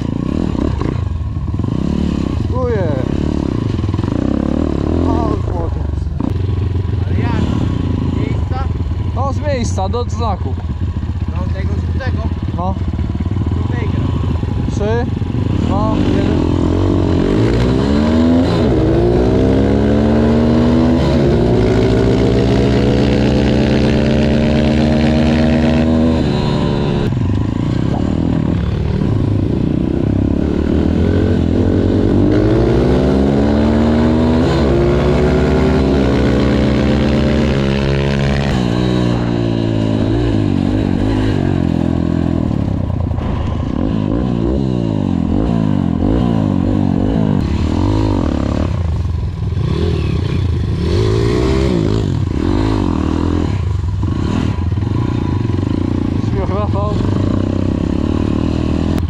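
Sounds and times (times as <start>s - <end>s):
pit bike engines accelerating: 0.0s - 59.0s.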